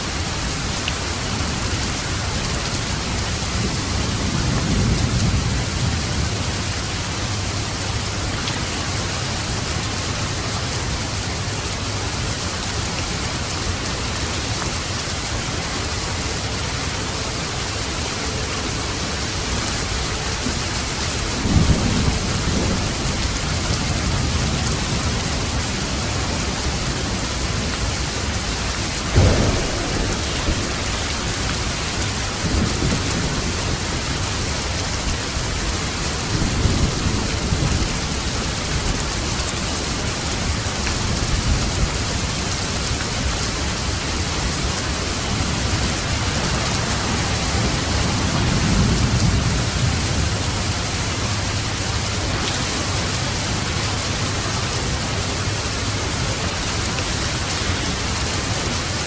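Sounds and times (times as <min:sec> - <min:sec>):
heavy rain hissing: 0:00.0 - 0:59.0
thunder rumbling: 0:00.1 - 0:11.0, 0:14.8 - 0:59.0.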